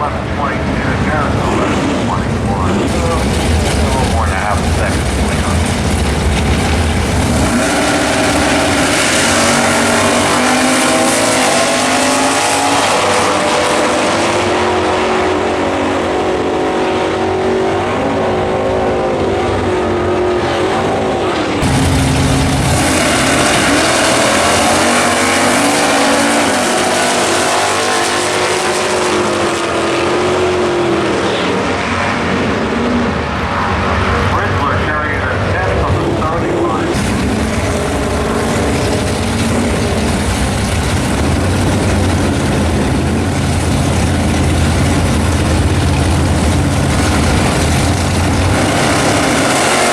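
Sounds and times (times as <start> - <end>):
race car engines accelerating: 0.0 - 49.9.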